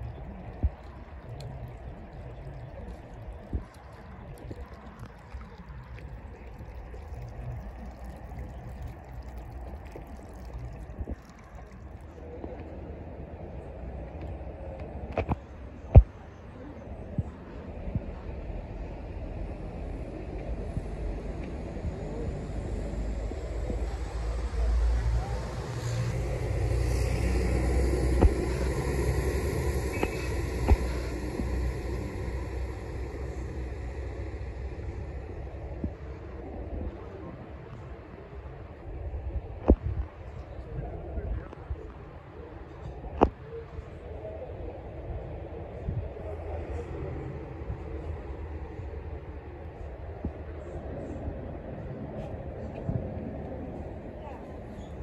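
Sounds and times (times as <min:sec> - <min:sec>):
low uneven rumble: 0:00.0 - 0:55.0
moving river water: 0:00.0 - 0:55.0.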